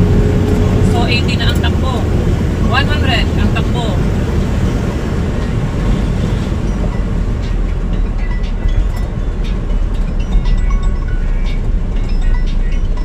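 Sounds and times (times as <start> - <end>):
car road and drivetrain rumble: 0.0 - 13.0
music playing: 0.0 - 13.0.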